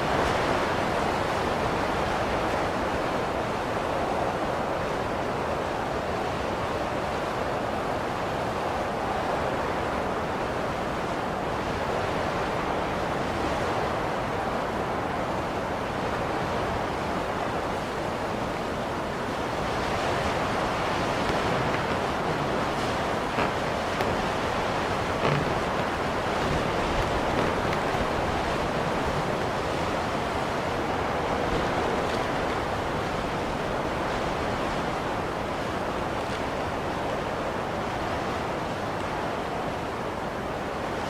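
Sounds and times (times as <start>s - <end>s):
blizzard wind blowing: 0.0s - 41.0s.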